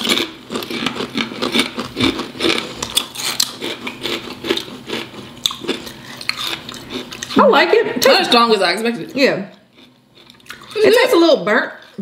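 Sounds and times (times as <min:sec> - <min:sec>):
people chewing crisp chips: 0:00.0 - 0:08.1, 0:09.5 - 0:12.0.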